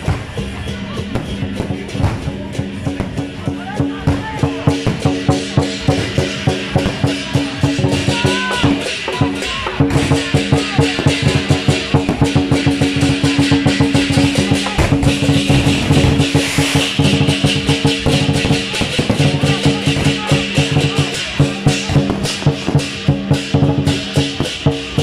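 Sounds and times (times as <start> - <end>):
fast drum and percussion beat: 0.0 - 25.0.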